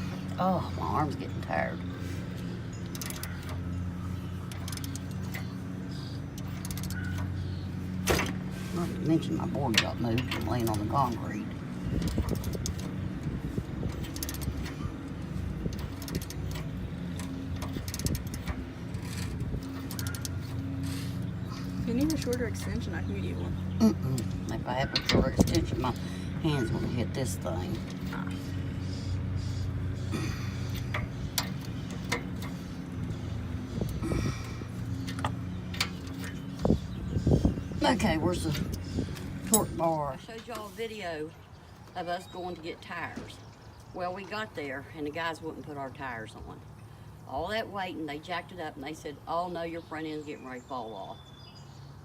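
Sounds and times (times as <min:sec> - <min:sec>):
steady low hum: 0:00.0 - 0:50.2.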